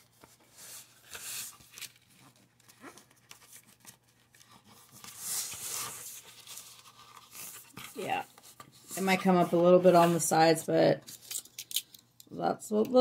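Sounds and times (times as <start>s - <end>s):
paper rustling and scraping: 0.0s - 10.5s.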